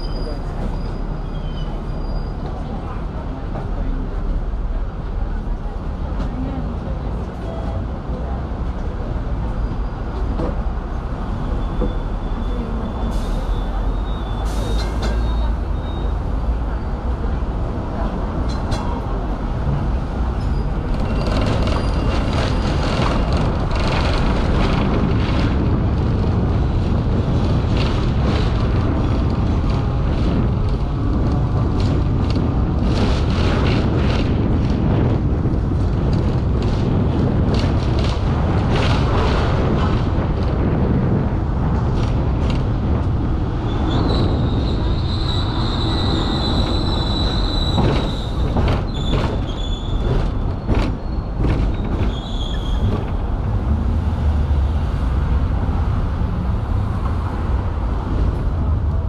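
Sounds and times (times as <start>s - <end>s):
tram motors and wheels rumbling: 0.0s - 59.0s.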